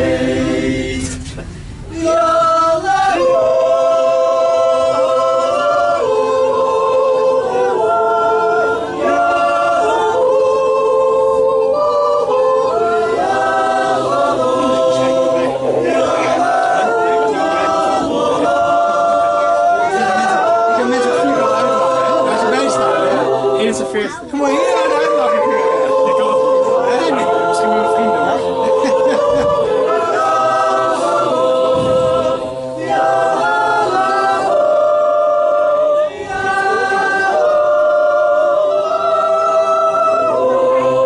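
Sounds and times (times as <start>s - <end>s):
a cappella choir singing: 0.0s - 41.0s.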